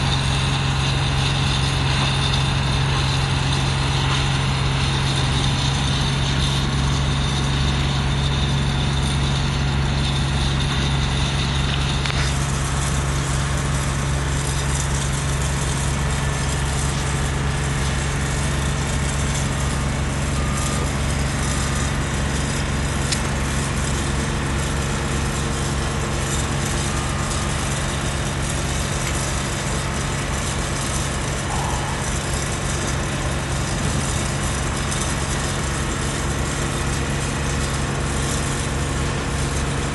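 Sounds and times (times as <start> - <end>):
engine running low hum: 0.0 - 39.9.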